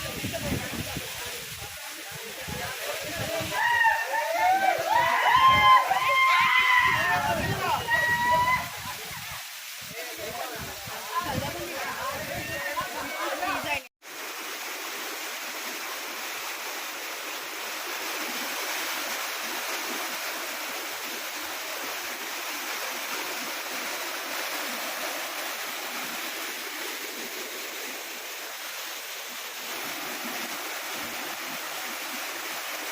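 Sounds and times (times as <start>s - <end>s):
waterfall and river rushing: 0.0s - 32.9s.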